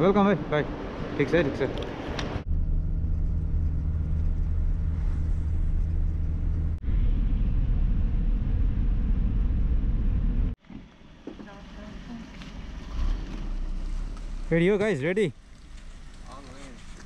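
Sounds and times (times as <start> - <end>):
car engine and road noise drone: 0.0 - 17.0.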